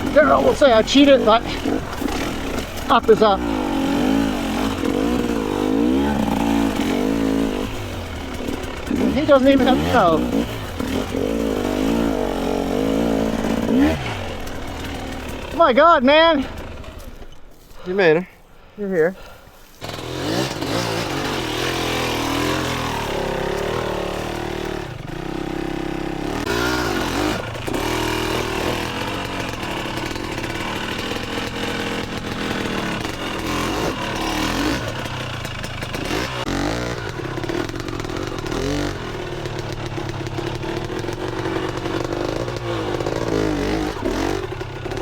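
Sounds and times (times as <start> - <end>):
dirt bike engine revving: 0.0 - 18.2, 19.2 - 45.0.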